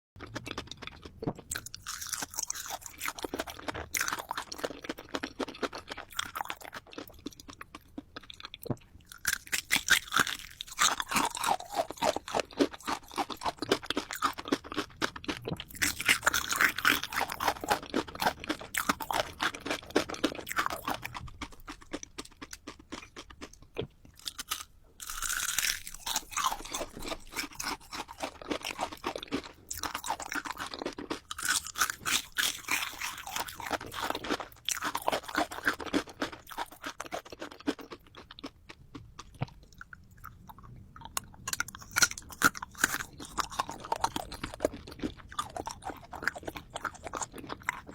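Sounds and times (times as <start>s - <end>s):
hard candy crunching: 0.2s - 47.9s.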